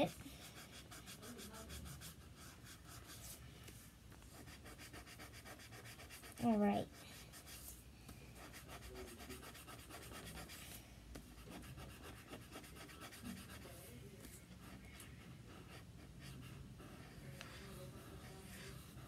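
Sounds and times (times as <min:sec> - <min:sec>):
fingertip scratching on paper: 0:00.0 - 0:03.4, 0:04.2 - 0:07.8, 0:08.4 - 0:19.0.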